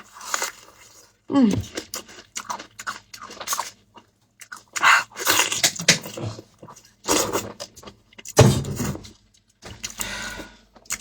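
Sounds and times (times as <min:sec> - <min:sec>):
wet chewing and smacking: 0:00.0 - 0:08.4, 0:09.0 - 0:11.0.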